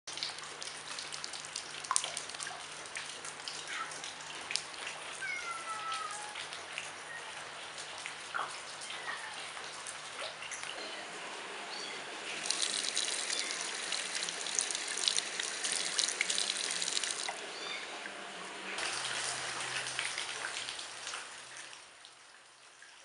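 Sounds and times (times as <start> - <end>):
rain patter and splashes on water: 0.1 - 23.0.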